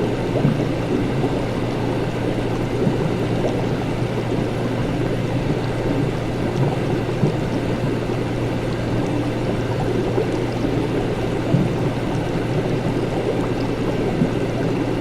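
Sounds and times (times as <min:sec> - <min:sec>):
liquid bubbling: 0:00.0 - 0:15.0.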